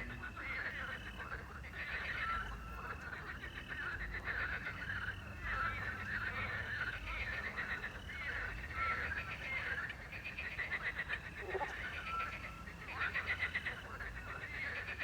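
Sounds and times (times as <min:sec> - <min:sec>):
frogs croaking: 0:00.0 - 0:15.0.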